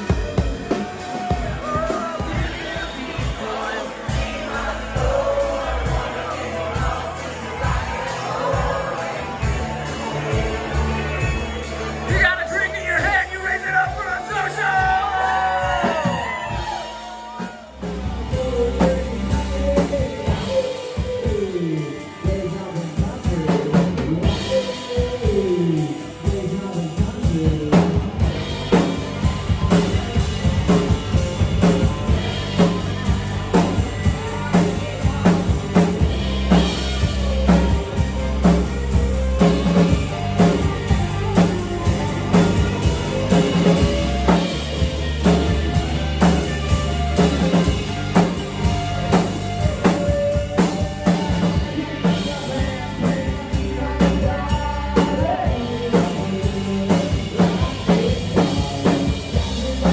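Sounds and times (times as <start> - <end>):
drum kit beat: 0.0 - 59.9
electric bass: 0.0 - 59.9.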